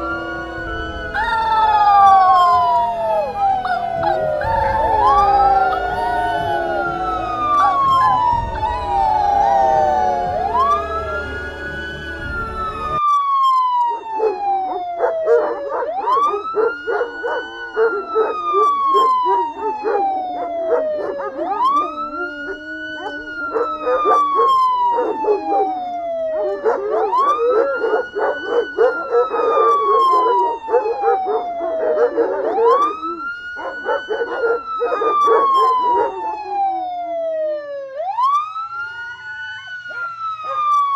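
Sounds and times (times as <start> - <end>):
dogs howling: 0.0 - 13.0, 13.8 - 37.4, 39.8 - 40.9
emergency siren wailing: 0.0 - 40.9.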